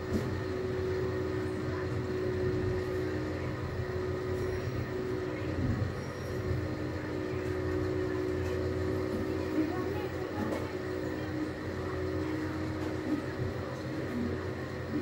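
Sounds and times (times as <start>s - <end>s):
constant hum: 0.0s - 15.0s
low mechanical rumble: 0.0s - 15.0s.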